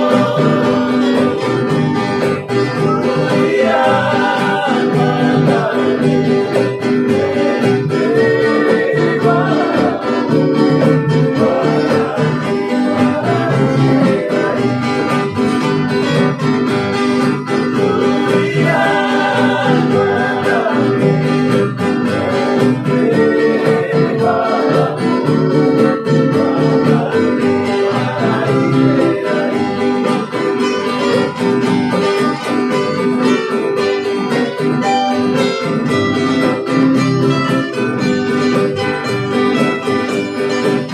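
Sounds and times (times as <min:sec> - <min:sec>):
group singing: 0:00.0 - 0:34.4
hand drum: 0:00.0 - 0:40.9
strummed acoustic guitars: 0:00.0 - 0:40.9
ukulele: 0:00.0 - 0:40.9.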